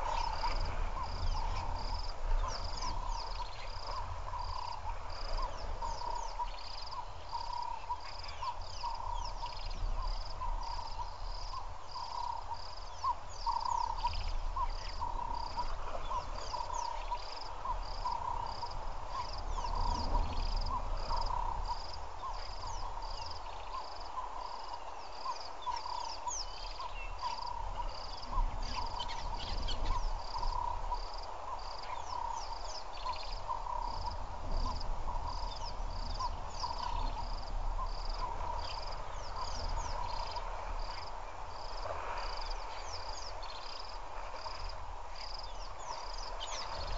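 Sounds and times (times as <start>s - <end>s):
frogs and insects pulsed calls: 0.0s - 46.9s.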